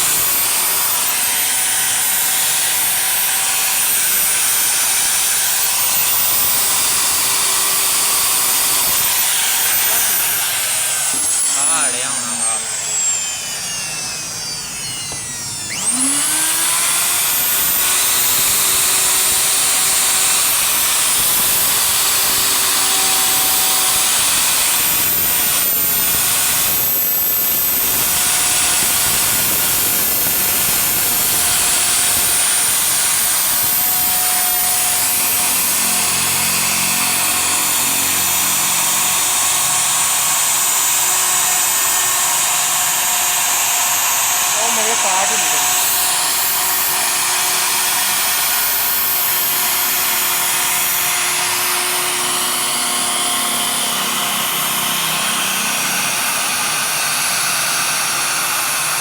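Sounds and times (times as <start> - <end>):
power tool whining on wood: 0.0 - 59.0.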